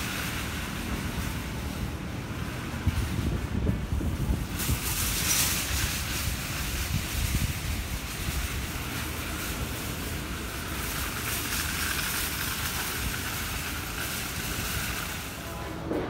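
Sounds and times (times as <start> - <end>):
outdoor hiss: 0.0 - 16.0
wind buffeting microphone: 2.0 - 16.0.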